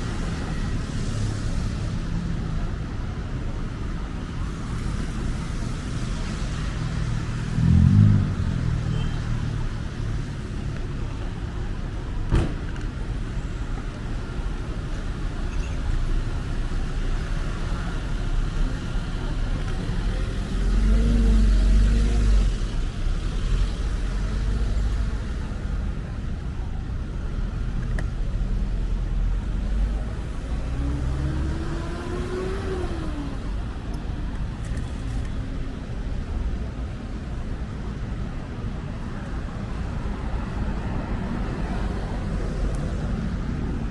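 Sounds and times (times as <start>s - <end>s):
cars driving past: 3.8s - 26.2s, 27.3s - 43.9s.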